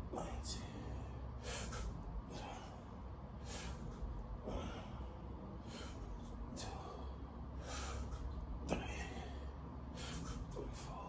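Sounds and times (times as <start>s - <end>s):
heavy rhythmic breathing: 0.0s - 11.0s.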